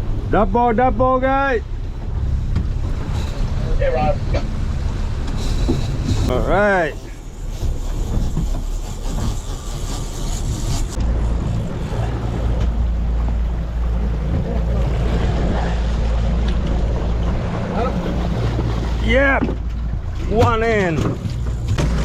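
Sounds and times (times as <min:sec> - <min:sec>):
boat engine rumbling: 0:00.0 - 0:22.0
water noise: 0:00.0 - 0:22.0
wind: 0:00.0 - 0:22.0.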